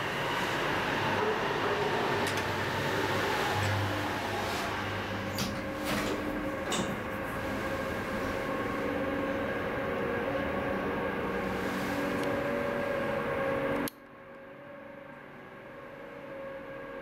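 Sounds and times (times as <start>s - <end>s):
elevator hum with faint whine: 0.0s - 17.0s.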